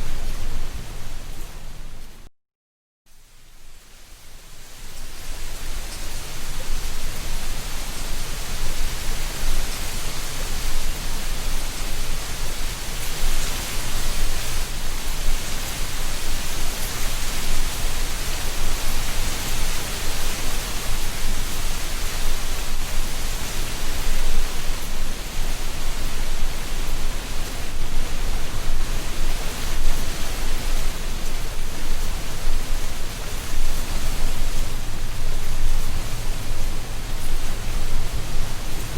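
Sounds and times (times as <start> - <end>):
wind rustling dry leaves: 0.0 - 2.3, 3.1 - 38.9.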